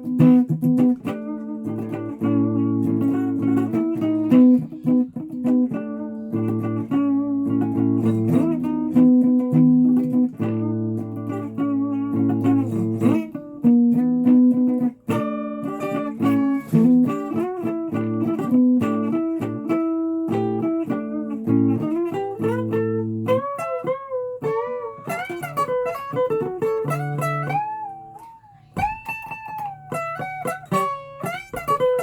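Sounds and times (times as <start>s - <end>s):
guitar riff: 0.0s - 32.0s.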